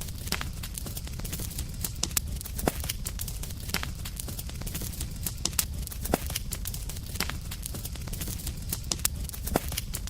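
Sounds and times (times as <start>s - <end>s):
campfire crackling: 0.0s - 10.0s
low fire rumble: 0.0s - 10.0s.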